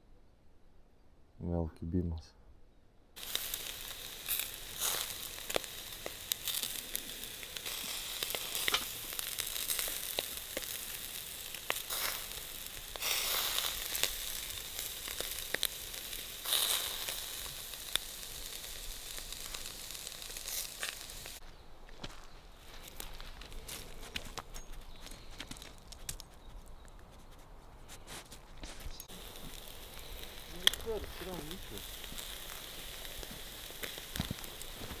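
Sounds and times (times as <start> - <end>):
crackling hiss with sharp clicks: 3.2 - 27.0, 28.4 - 35.0.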